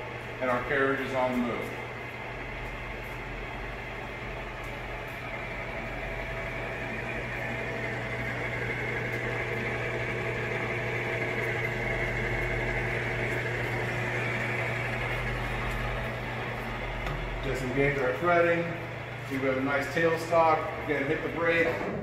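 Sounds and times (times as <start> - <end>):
lathe machine hum and gear whir: 0.0 - 22.0.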